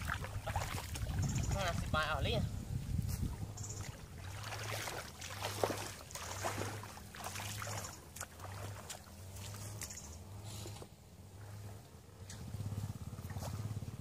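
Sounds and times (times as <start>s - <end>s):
feet sloshing through water: 0.0s - 14.0s.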